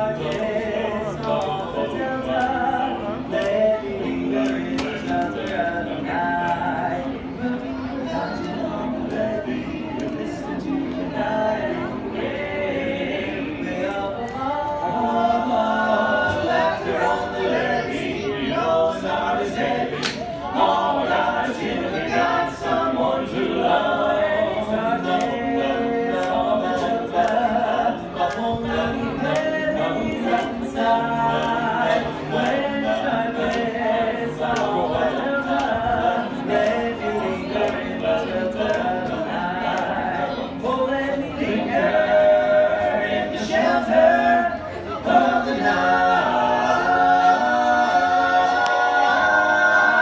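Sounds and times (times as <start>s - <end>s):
male quartet singing a cappella: 0.0s - 50.0s.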